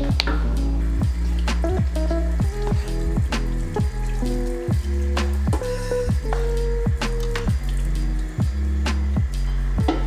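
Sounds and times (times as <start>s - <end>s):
background music with bass and beat: 0.0s - 10.0s.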